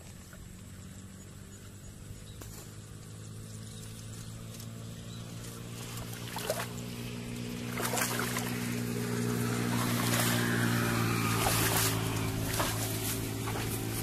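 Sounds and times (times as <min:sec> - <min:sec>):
low engine hum: 0:00.0 - 0:14.0
wading through shallow water: 0:02.6 - 0:14.0.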